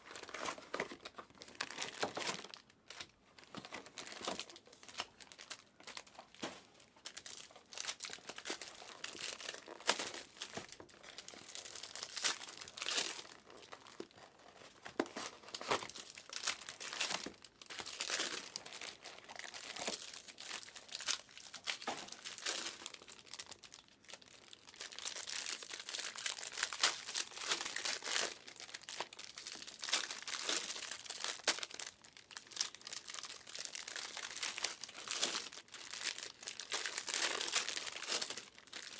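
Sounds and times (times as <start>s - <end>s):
plastic wrappers tearing and crinkling: 0.0s - 38.9s.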